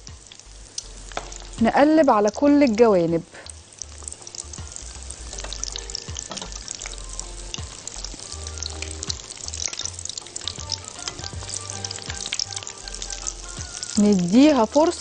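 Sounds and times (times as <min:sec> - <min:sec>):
food deep-frying in hot oil: 0:00.0 - 0:15.0
metal spoon turning food in pan: 0:00.0 - 0:15.0.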